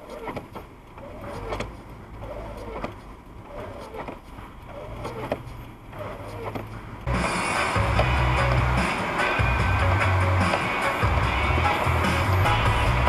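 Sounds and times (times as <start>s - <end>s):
car engine and tyres drone: 0.0s - 13.0s
windshield wipers squeaking: 0.0s - 13.0s.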